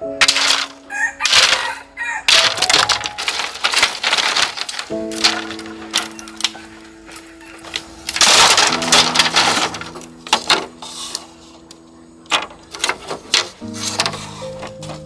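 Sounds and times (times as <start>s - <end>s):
bamboo poles clattering: 0.0s - 15.0s
soft background music: 0.0s - 15.0s.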